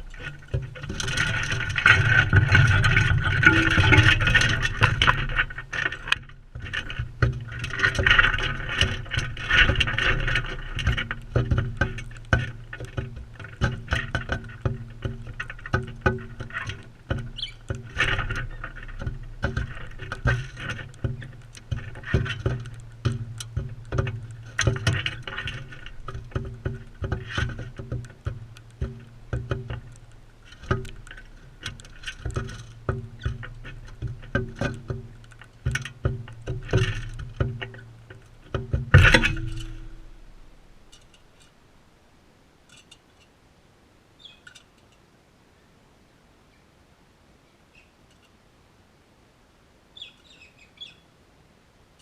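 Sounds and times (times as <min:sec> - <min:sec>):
birds pecking and cracking seed: 0:00.0 - 0:41.9, 0:42.6 - 0:43.4, 0:44.2 - 0:45.1.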